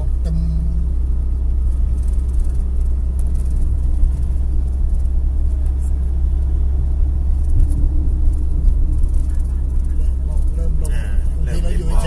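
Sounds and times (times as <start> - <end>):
van road rumble from inside: 0.0 - 12.0.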